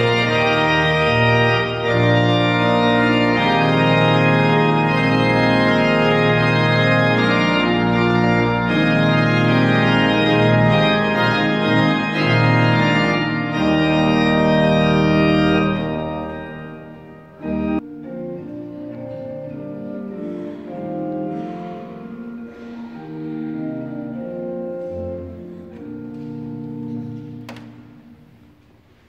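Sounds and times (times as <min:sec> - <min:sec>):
pipe organ chords: 0:00.0 - 0:29.0.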